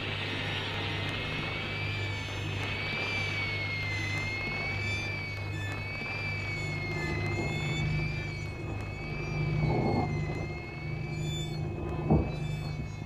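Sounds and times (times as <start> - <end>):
low steady drone: 0.0 - 13.0
high tone rising and falling: 1.5 - 13.0.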